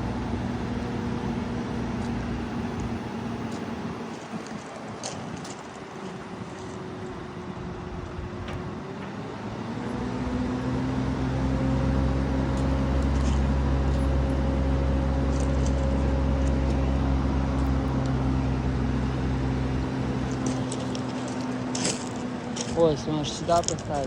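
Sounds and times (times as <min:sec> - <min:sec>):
crane engine running: 0:00.0 - 0:24.0.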